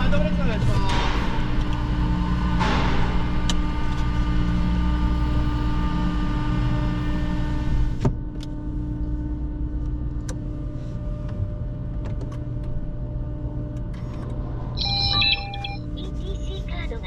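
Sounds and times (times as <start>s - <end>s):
vehicle hum inside car: 0.0s - 17.0s.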